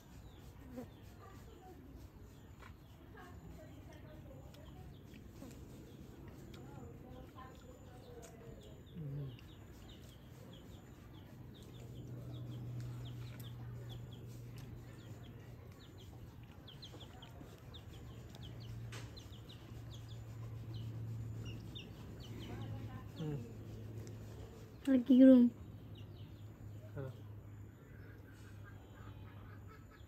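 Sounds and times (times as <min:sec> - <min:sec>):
low steady hum: 0:00.0 - 0:30.0
small birds chirping: 0:00.0 - 0:30.0.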